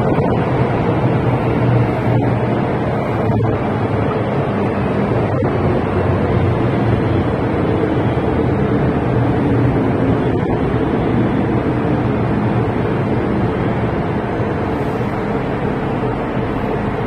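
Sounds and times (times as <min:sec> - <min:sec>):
electric train running: 0:00.0 - 0:17.0.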